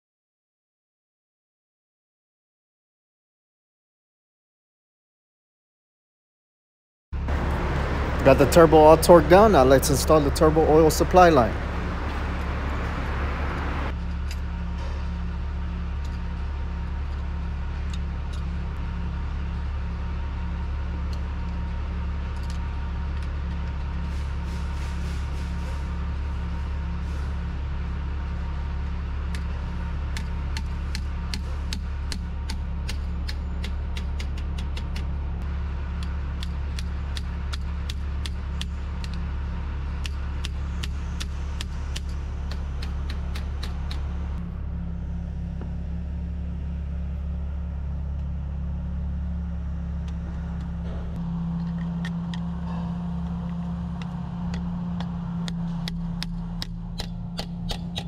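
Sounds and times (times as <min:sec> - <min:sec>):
steady low hum: 0:07.2 - 0:58.0.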